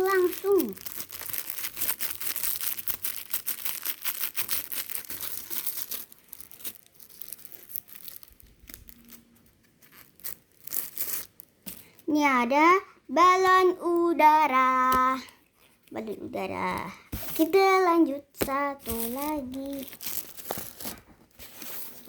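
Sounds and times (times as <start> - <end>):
plastic wrapper crinkling and tearing: 0.0 - 12.1, 13.9 - 22.0.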